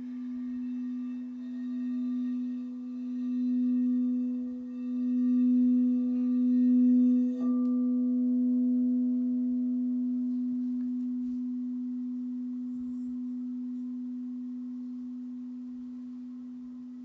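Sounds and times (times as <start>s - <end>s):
singing bowl ringing: 0.0s - 17.0s.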